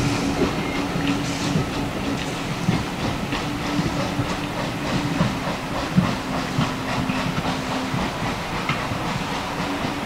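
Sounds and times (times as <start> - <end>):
steam hissing: 0.0 - 10.0
train wheels clicking over rail joints: 0.0 - 10.0.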